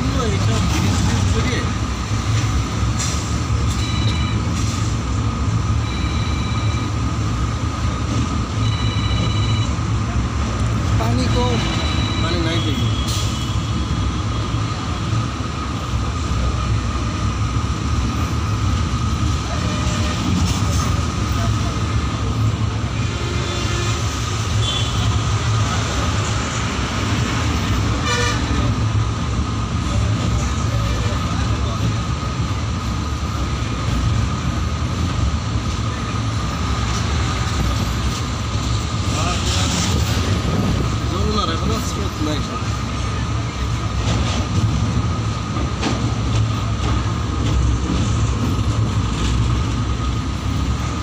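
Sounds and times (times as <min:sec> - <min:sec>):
train rumbling on rails: 0:00.0 - 0:51.0.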